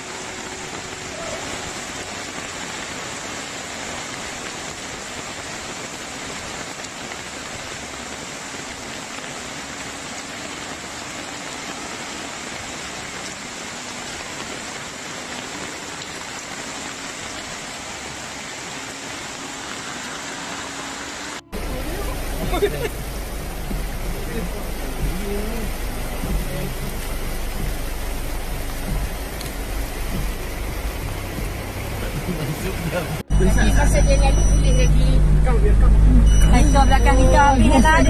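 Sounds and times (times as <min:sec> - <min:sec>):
floodwater running down street: 0:00.0 - 0:38.0
heavy rain: 0:00.0 - 0:38.0.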